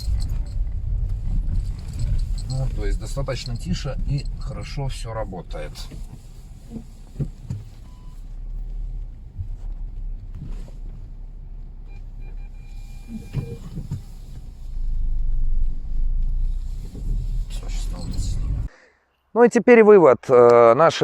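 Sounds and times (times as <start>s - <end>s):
car road rumble inside cabin: 0.0s - 18.7s
suspension thumps: 0.0s - 18.7s.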